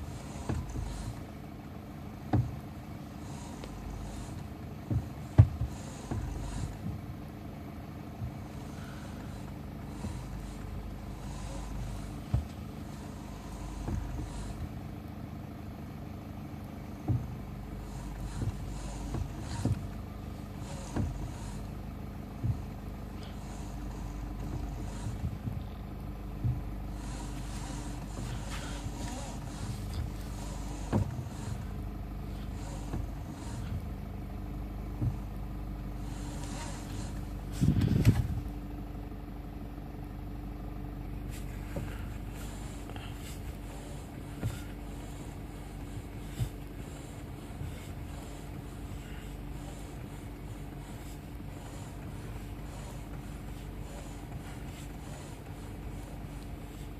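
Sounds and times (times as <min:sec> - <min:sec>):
sharp engine knocks: 0:00.0 - 0:40.0, 0:40.6 - 0:56.9
vehicle engine running: 0:00.0 - 0:56.9.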